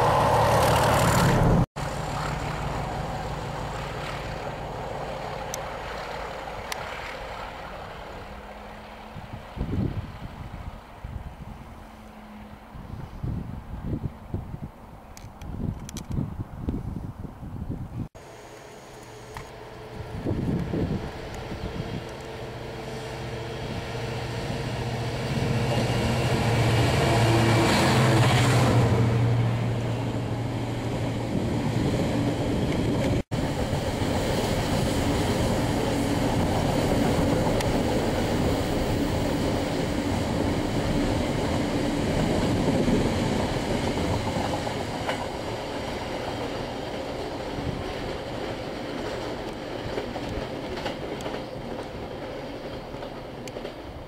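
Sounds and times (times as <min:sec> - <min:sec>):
freight wagons rumbling on rails: 0:00.0 - 0:13.1, 0:19.2 - 0:54.0
diesel locomotive engine drone: 0:00.0 - 0:15.6, 0:18.2 - 0:54.0.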